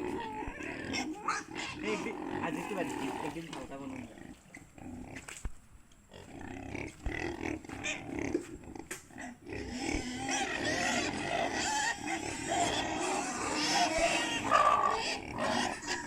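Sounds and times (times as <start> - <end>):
pigs grunting and squealing: 0.0 - 5.4, 6.1 - 16.0.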